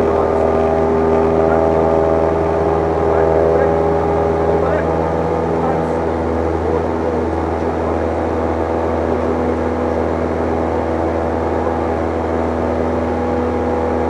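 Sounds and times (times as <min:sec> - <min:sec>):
airplane engine and propeller drone: 0:00.0 - 0:14.0.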